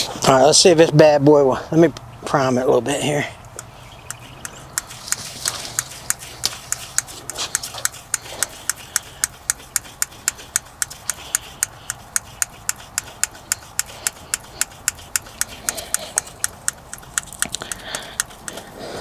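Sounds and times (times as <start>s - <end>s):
fuel pump ticking: 3.4s - 19.0s.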